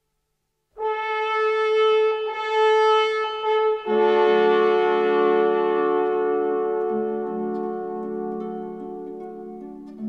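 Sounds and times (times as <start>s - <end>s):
sustained held chords: 1.8s - 10.0s.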